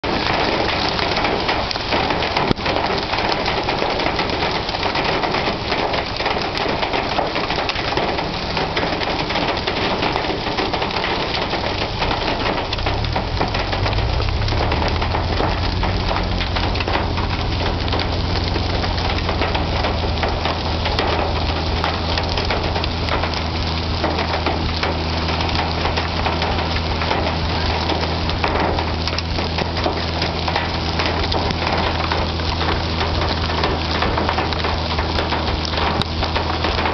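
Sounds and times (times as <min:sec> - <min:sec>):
hailstones striking hard surfaces: 0:00.0 - 0:36.9
heavy rain: 0:00.0 - 0:36.9.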